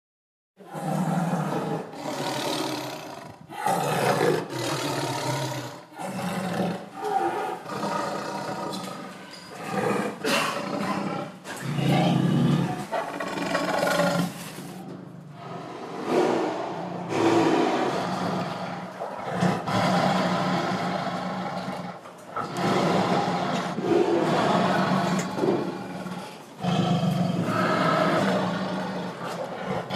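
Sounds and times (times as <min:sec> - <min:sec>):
tiger roaring: 0:00.6 - 0:29.9.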